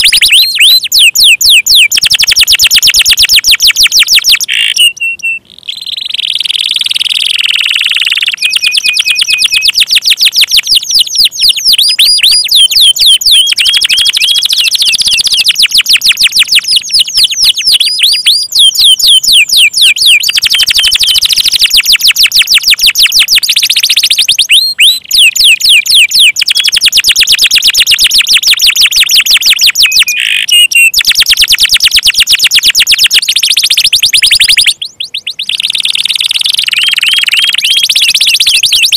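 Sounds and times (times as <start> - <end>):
canary singing rolling trills: 0.0 - 38.9.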